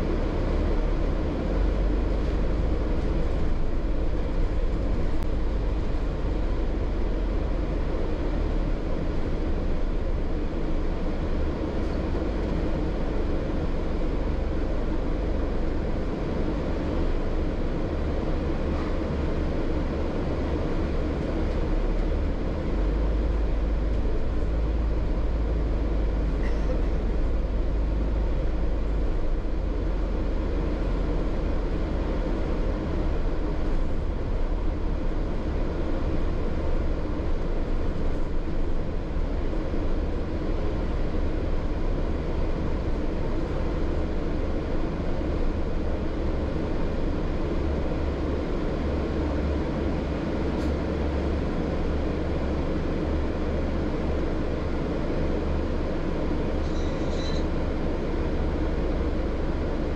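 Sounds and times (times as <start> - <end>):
bus engine rumble: 0.0 - 59.9
road noise: 0.0 - 59.9.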